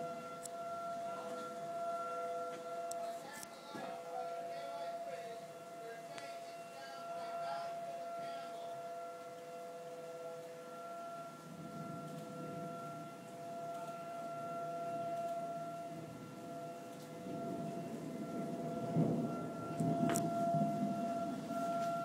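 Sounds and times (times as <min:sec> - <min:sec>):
storm wind and rain: 0:00.0 - 0:22.0
warning siren: 0:00.0 - 0:22.0.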